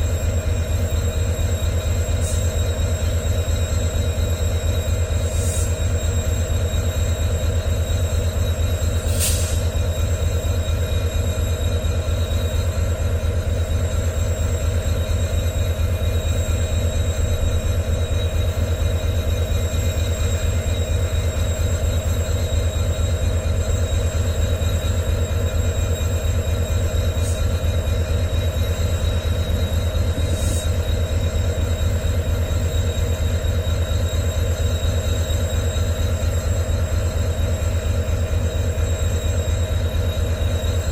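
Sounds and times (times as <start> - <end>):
diesel locomotive engine idling: 0.0 - 40.9.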